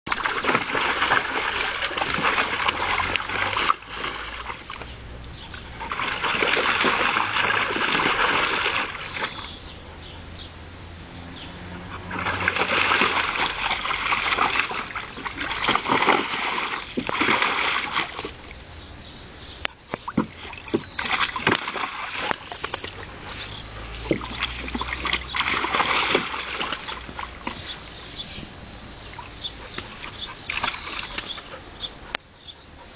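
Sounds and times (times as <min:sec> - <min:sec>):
dog splashing in water: 0:00.1 - 0:09.6, 0:11.2 - 0:18.6, 0:19.7 - 0:28.4, 0:29.0 - 0:32.1.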